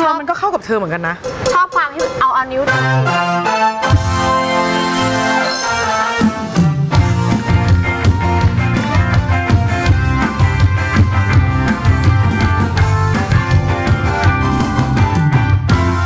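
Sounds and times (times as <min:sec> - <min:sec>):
music with drum beat and bass: 0:01.2 - 0:05.4, 0:06.0 - 0:16.0.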